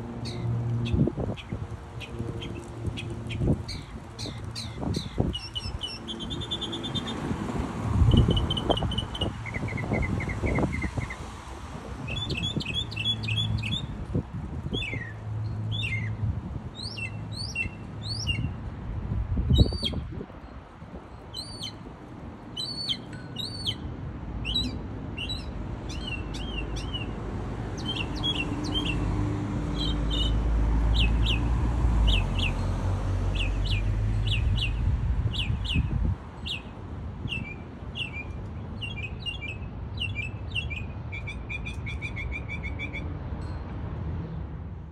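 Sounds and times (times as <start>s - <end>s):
low traffic rumble: 0.0s - 44.9s.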